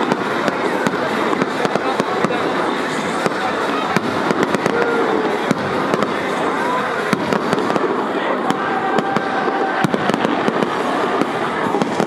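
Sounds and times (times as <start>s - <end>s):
crowd voices: 0.0s - 12.0s
fireworks popping and crackling: 0.0s - 12.0s.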